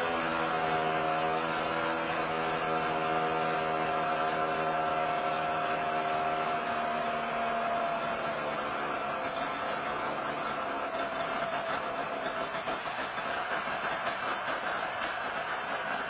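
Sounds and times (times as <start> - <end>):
snowmobile engine high-pitched whine: 0.0 - 16.0.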